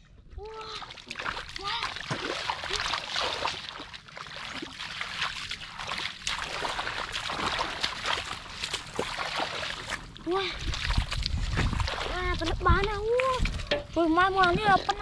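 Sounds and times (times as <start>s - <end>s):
splashing in muddy water: 0.4s - 15.0s.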